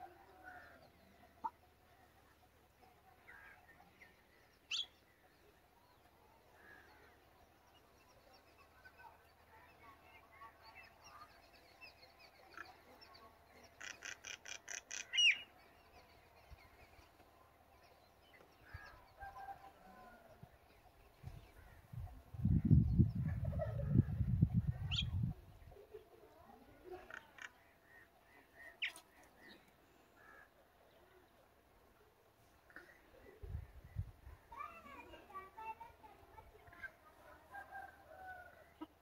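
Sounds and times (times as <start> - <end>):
birds chirping: 0.5 - 26.0, 26.8 - 36.9.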